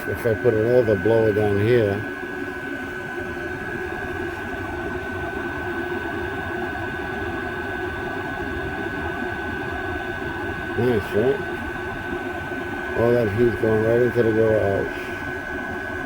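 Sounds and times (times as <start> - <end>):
diesel air heater whirring: 0.0 - 16.0
electric fan blowing: 0.0 - 16.0.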